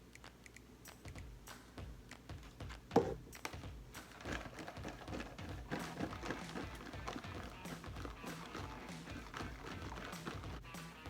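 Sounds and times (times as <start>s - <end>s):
background music: 0.8s - 11.0s.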